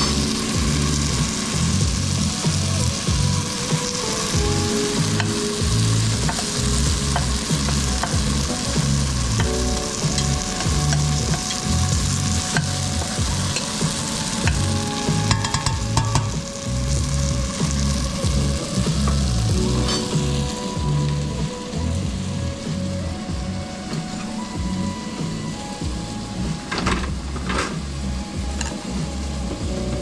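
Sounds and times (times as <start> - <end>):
food sizzling in a frying pan: 0.0 - 29.6.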